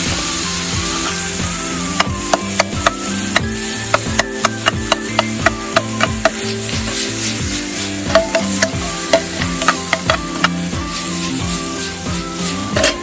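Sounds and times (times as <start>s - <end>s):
food sizzling in a pan: 0.0s - 13.0s
metal utensil striking pan: 0.0s - 13.0s.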